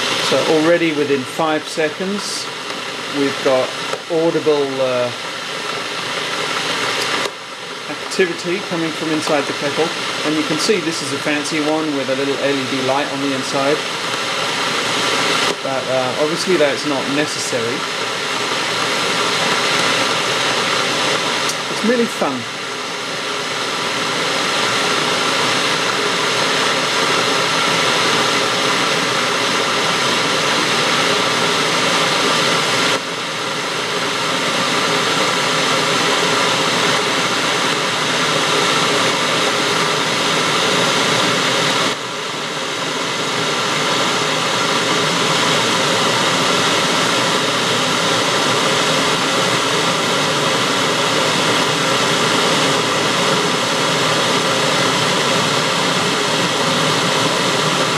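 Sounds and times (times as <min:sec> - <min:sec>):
electric kettle hissing and rumbling: 0:00.0 - 0:57.9.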